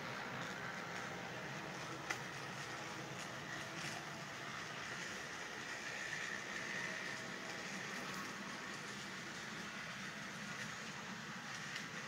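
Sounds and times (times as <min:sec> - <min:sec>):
model train motor and wheels: 0:00.0 - 0:12.0.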